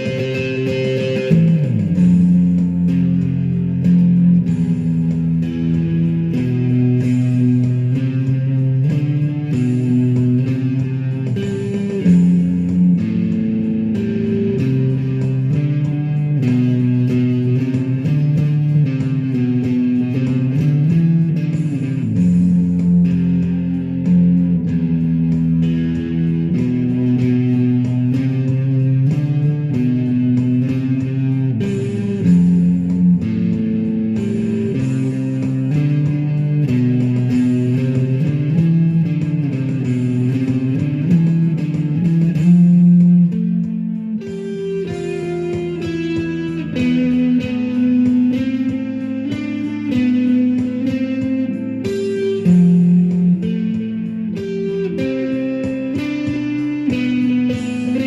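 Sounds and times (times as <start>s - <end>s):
bass guitar: 0.0s - 58.0s
electric guitar rock music: 0.0s - 58.0s.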